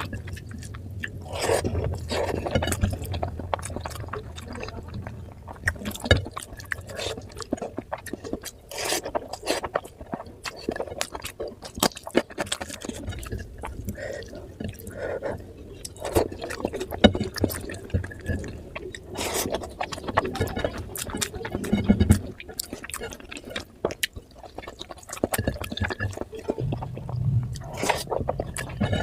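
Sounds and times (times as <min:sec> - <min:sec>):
wet chewing and slurping: 0:00.0 - 0:29.0.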